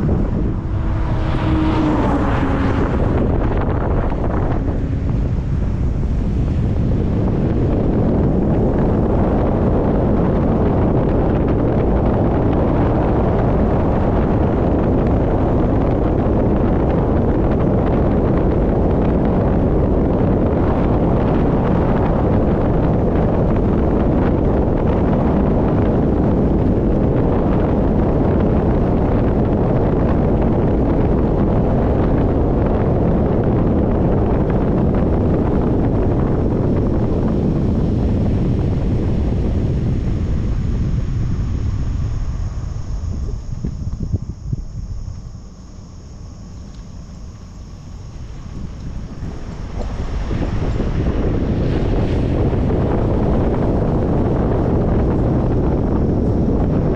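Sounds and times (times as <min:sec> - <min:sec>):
vehicle road noise: 0:00.0 - 0:56.9
wind rumble on microphone: 0:00.0 - 0:56.9.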